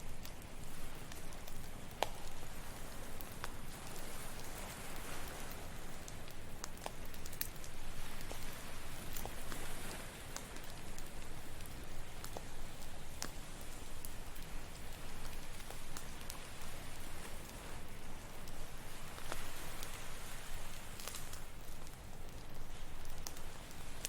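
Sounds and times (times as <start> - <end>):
campfire crackling: 0.0 - 24.0
ocean waves: 0.4 - 22.1.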